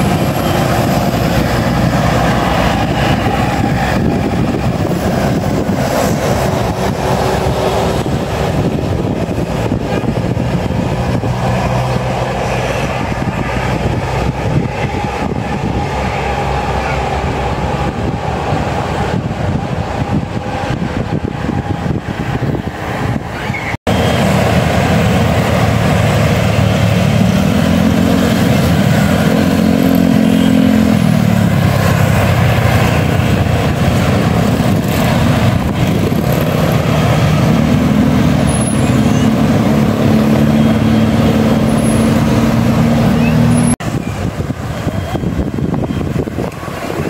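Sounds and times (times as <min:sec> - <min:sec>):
diesel engine revving: 0:00.0 - 0:47.0
road traffic: 0:00.0 - 0:47.0.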